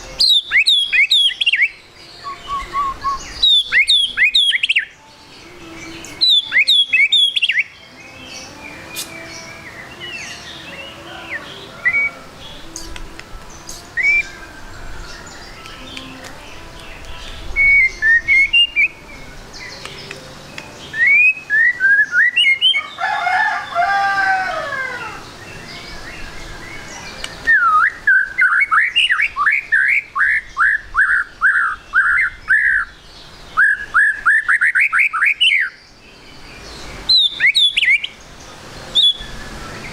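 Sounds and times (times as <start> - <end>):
songbird chirps and whistles: 0.0 - 39.9.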